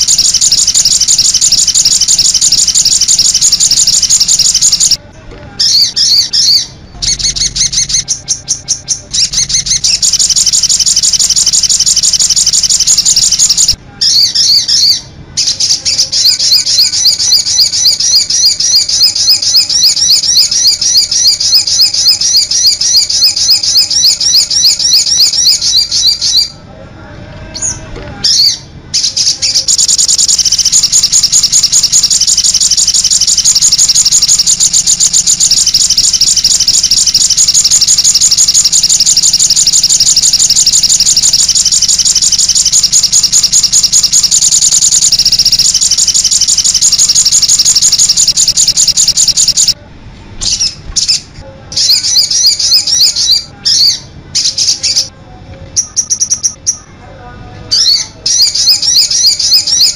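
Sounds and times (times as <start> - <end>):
bird song high trills: 0.0 - 5.0, 5.6 - 26.6, 27.6 - 49.8, 51.8 - 55.1, 57.7 - 59.9.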